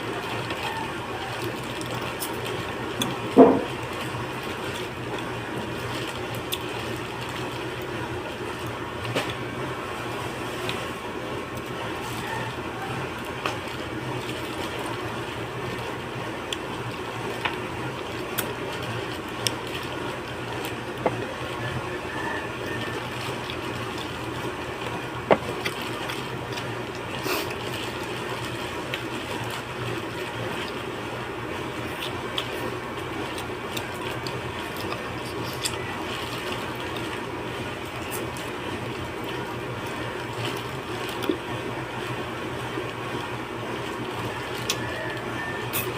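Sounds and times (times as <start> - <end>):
slurping and chewing: 0.0 - 9.4, 10.1 - 42.0, 42.6 - 45.9.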